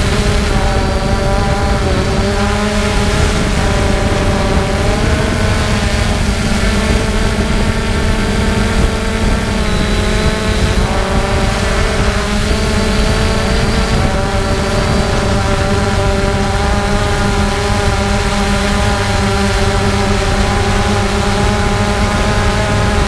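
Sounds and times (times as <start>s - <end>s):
drone motors whining: 0.0s - 23.0s
propeller rushing noise: 0.0s - 23.0s.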